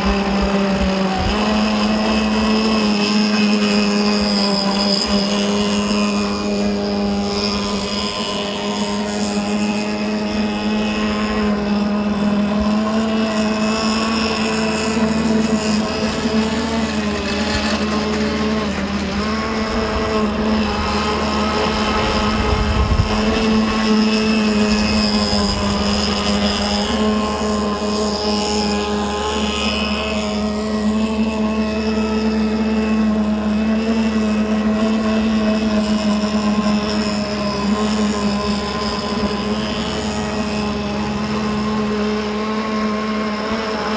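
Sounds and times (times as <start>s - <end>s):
model boat engine buzzing: 0.0s - 43.9s.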